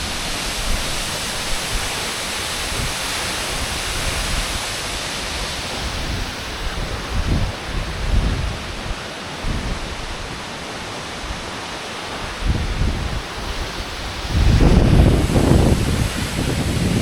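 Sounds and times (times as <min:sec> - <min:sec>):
large waterfall rushing: 0:00.0 - 0:17.0.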